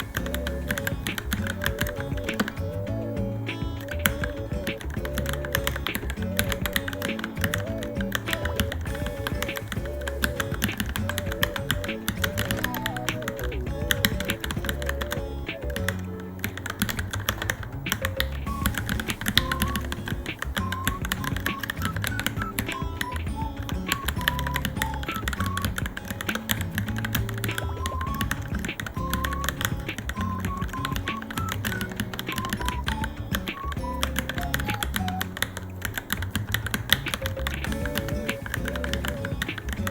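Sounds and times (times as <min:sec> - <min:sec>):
background music with melody: 0:00.0 - 0:39.9.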